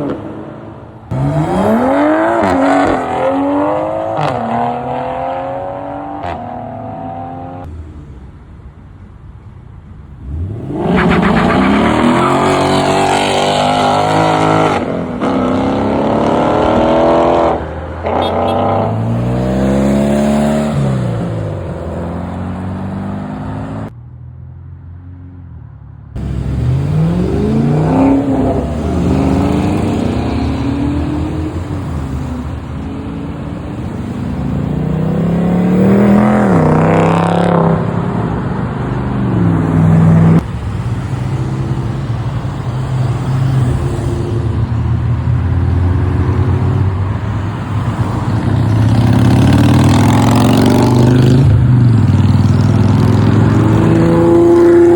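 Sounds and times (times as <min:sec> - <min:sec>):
car engines revving: 0:00.0 - 0:08.8, 0:10.0 - 0:24.0, 0:26.1 - 0:54.9.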